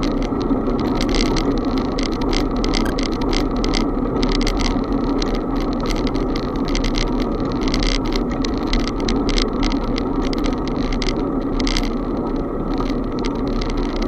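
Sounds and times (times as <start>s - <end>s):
bicycle clicks and rattles: 0.0s - 14.0s
road noise: 0.0s - 14.0s.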